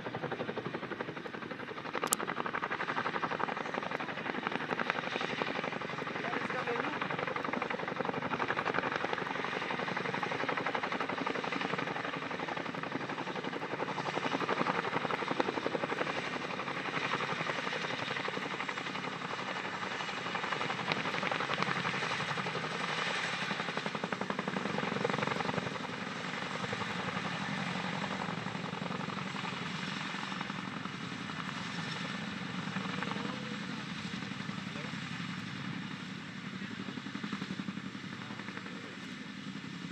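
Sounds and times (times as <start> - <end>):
helicopter rotors beating: 0.0 - 39.9.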